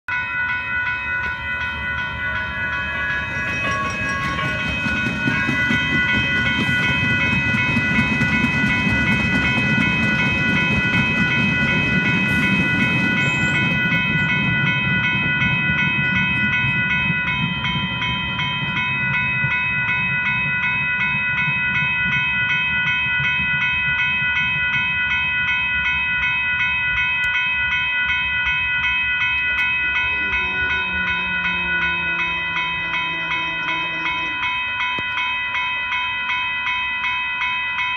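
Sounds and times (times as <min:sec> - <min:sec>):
crossing warning bell ringing: 0:00.0 - 0:37.9
light rail train rumbling past: 0:00.1 - 0:37.9.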